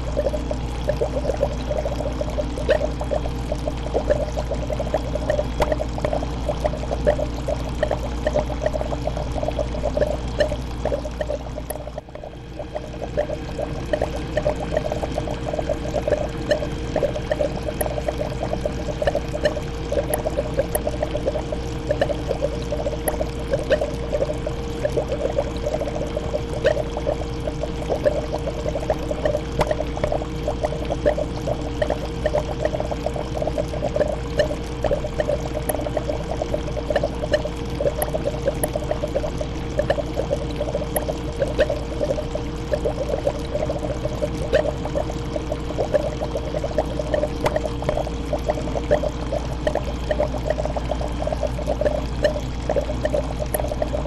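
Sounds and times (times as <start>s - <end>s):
aquarium water bubbling: 0.0s - 54.0s.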